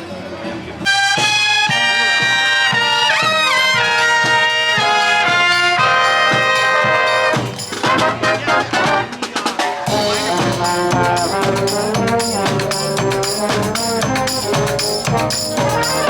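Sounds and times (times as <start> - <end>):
brass music: 0.8 - 16.0.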